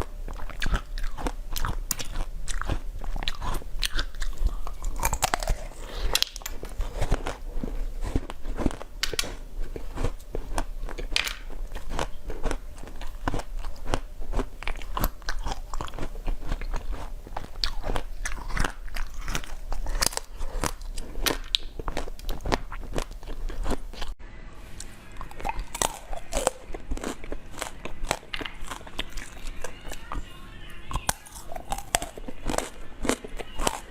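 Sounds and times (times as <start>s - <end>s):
crunchy chewing of food: 0.0s - 24.2s, 24.8s - 30.3s, 30.9s - 33.9s.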